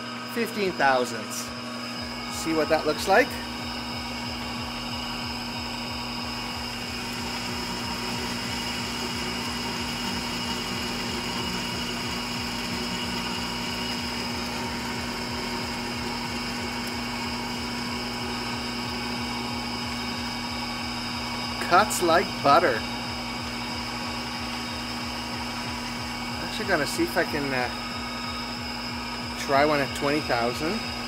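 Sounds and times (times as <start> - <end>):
lathe cutting metal: 0.0 - 31.0
lathe motor and gear hum: 0.0 - 31.0.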